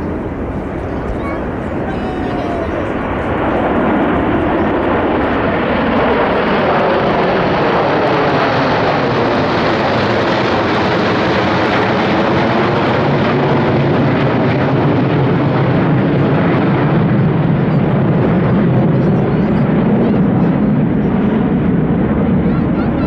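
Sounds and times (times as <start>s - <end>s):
military aircraft flying over: 0.0s - 23.0s.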